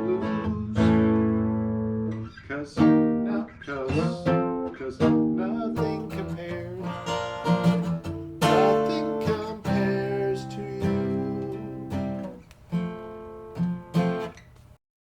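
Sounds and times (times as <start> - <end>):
acoustic guitar strumming: 0.0 - 14.6.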